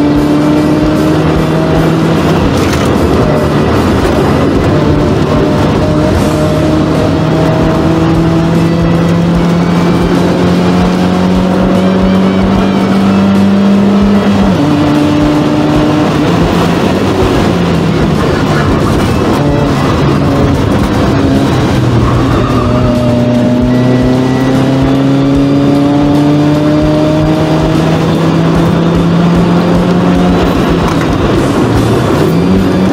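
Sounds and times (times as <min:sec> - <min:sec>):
car engine under load: 0:00.0 - 0:32.9.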